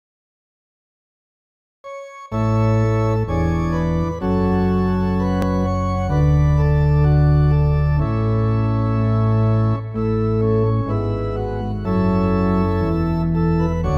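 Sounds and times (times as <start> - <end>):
organ playing chords: 1.9 - 13.9.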